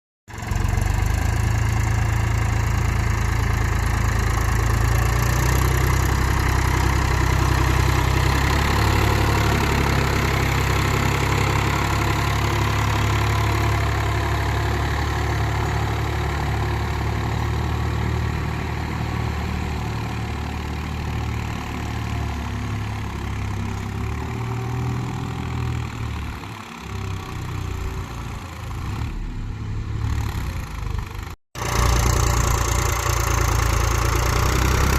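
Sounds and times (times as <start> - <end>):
tractor diesel engine running: 0.3 - 34.9.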